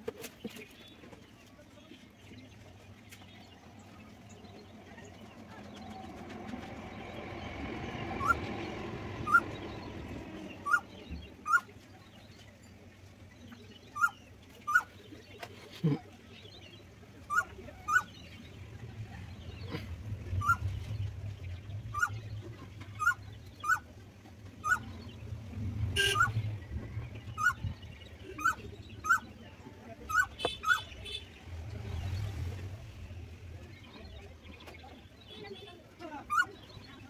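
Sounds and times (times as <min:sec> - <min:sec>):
bird chirping: 0:01.8 - 0:32.4.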